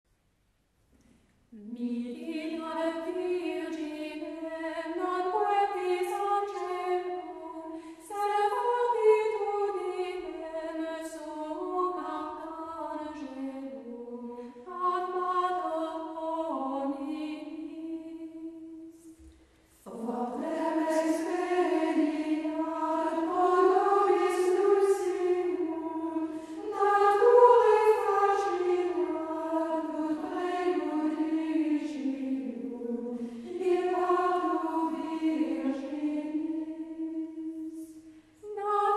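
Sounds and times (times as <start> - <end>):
choir singing sustained notes: 1.8 - 38.9.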